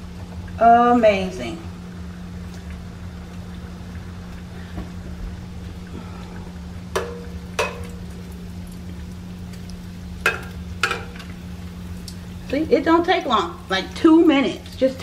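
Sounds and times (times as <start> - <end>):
low hum: 0.0 - 13.7
deep-frying sizzle in oil: 0.0 - 15.0.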